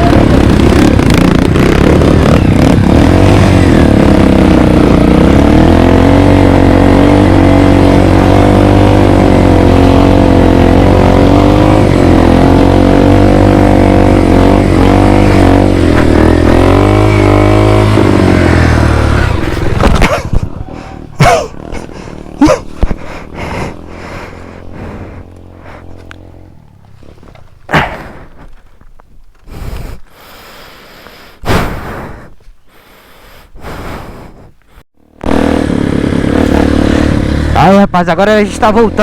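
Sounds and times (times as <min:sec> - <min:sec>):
motorcycle engine revving: 0:00.0 - 0:32.3, 0:33.6 - 0:39.0.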